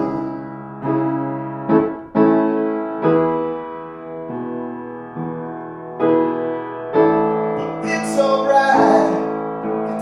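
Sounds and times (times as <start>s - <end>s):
piano playing slow chords: 0.0s - 10.0s.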